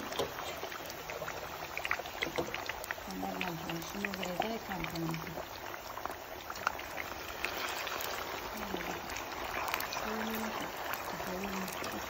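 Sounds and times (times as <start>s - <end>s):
oil sizzling with pops: 0.0s - 12.0s.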